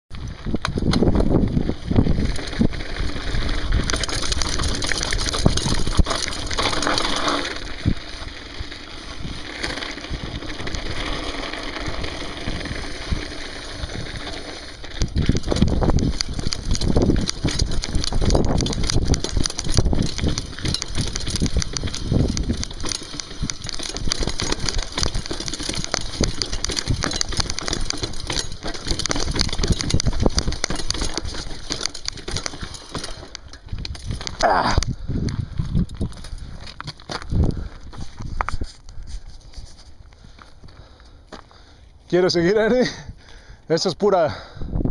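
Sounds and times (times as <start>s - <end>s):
bike rattling and knocking: 0.2s - 41.6s
tyres crunching on gravel: 0.6s - 42.9s.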